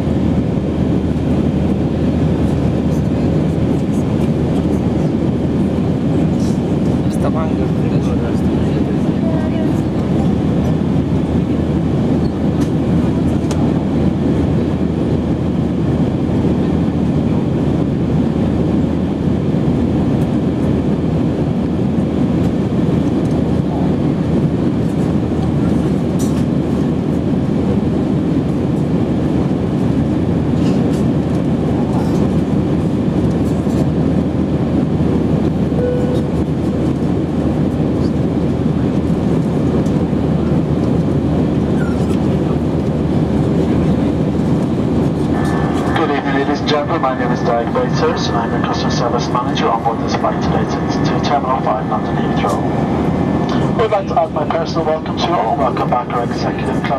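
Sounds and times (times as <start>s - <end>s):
jet airliner cabin roar: 0.0s - 56.9s.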